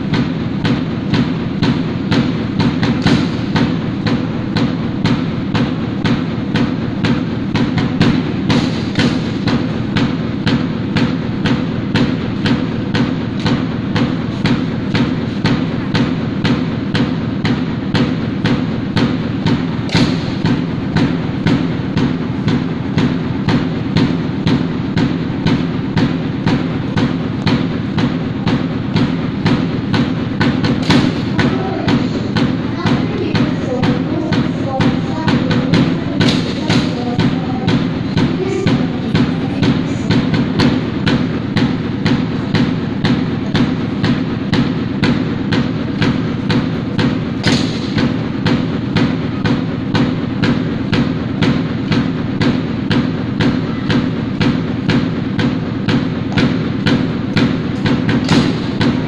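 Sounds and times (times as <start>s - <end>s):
steady drum beat: 0.0s - 59.0s.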